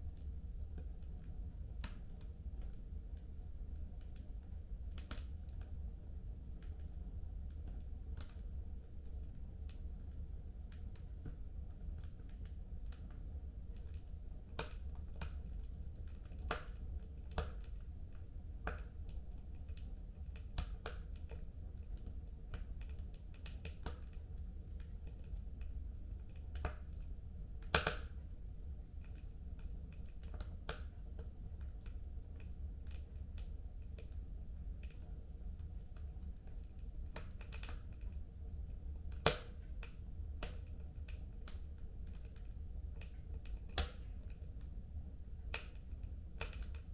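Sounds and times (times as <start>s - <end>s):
fire crackling and popping: 0.0s - 5.8s, 6.4s - 46.9s.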